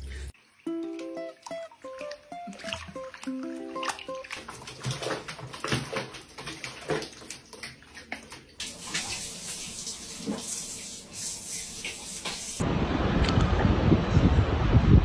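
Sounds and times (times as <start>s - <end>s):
water running: 0.0s - 12.6s
water splashing in a tub: 0.0s - 12.6s.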